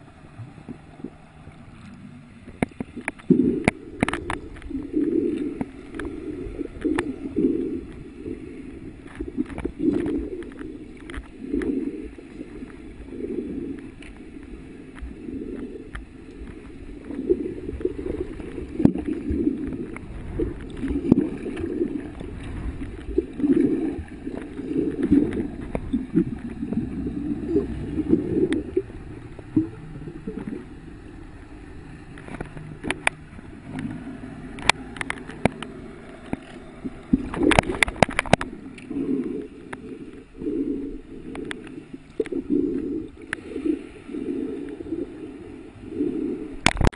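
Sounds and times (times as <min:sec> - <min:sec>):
small underwater clicks: 0:00.0 - 0:30.8, 0:31.4 - 0:46.9
underwater gurgling and rushing: 0:00.0 - 0:46.9.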